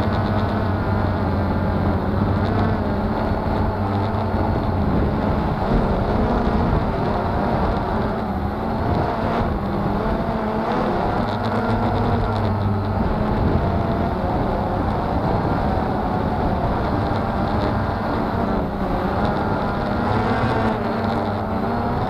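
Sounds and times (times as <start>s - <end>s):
drone propellers whirring: 0.0s - 22.0s.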